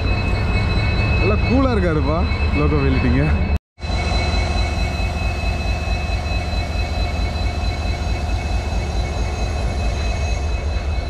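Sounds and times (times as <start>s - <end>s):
constant high whine: 0.0s - 11.0s
diesel locomotive engine idling: 0.0s - 11.0s.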